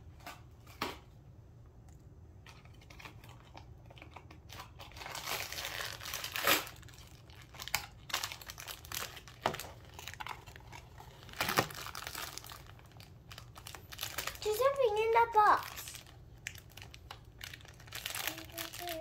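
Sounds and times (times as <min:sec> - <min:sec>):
wrapper crinkling and tearing: 0:02.5 - 0:19.0.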